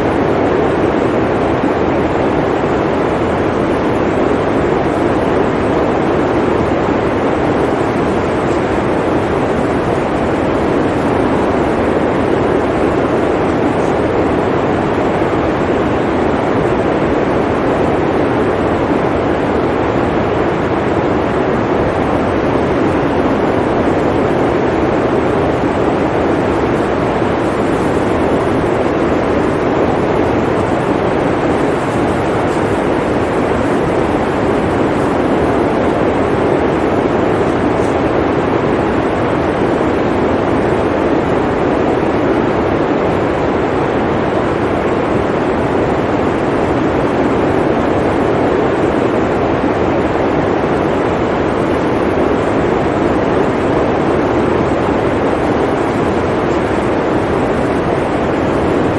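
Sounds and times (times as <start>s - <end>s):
blizzard wind blowing: 0.0s - 58.9s.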